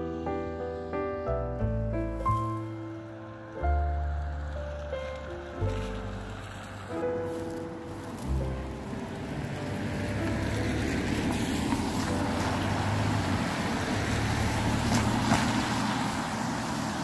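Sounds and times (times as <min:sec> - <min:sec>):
car passing on wet road: 0:02.1 - 0:17.0.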